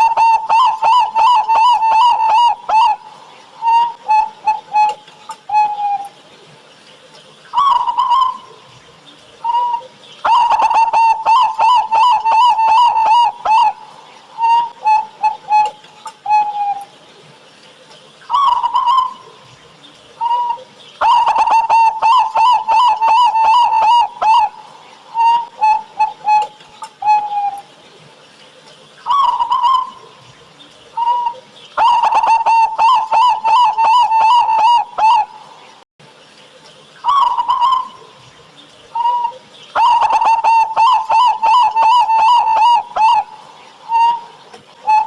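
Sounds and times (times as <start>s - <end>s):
dove cooing: 0.0s - 6.2s, 7.5s - 17.0s, 18.3s - 27.7s, 29.1s - 35.7s, 37.0s - 45.0s.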